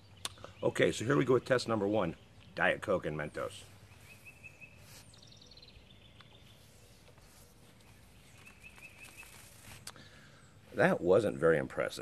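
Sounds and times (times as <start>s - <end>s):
bird song trills: 0.0s - 11.9s.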